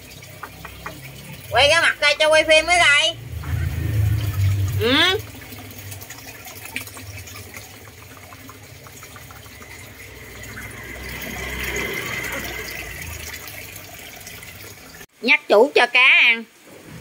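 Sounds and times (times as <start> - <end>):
rain falling and splashing: 0.0 - 15.1.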